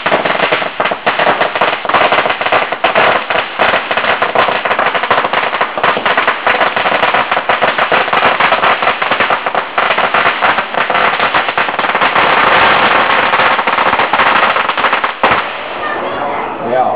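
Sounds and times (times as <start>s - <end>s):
firecrackers going off: 0.0s - 16.0s.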